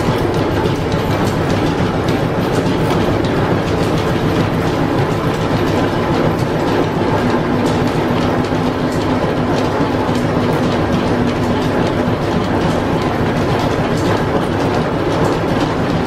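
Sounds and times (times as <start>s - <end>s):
lathe gears and belts clattering: 0.0s - 16.0s
steady hum: 0.0s - 16.0s.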